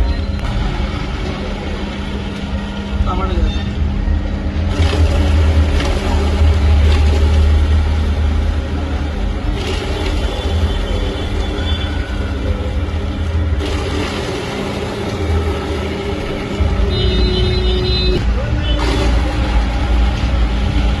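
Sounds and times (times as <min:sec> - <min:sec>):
chopping machine humming: 0:00.0 - 0:21.0.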